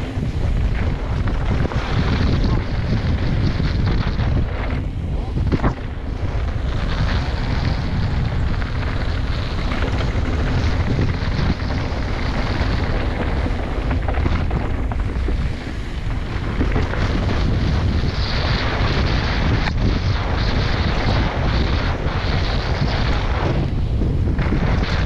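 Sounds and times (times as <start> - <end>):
bike rattling: 0.0 - 25.0
tyres rumbling on dirt: 0.0 - 25.0
wind buffeting microphone: 0.0 - 25.0.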